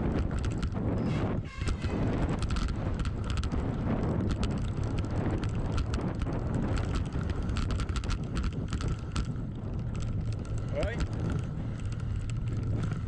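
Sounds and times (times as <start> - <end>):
bike rattles and clicks: 0.0 - 13.0
bike tyres rumbling over dirt: 0.0 - 13.0
wind noise on microphone: 0.0 - 13.0.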